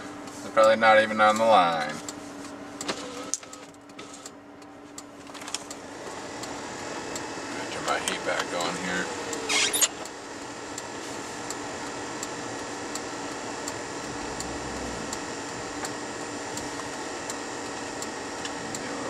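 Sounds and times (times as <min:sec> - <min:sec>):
car heater fan blowing: 0:00.0 - 0:19.0
faint regular ticking: 0:00.2 - 0:02.2, 0:03.8 - 0:19.0.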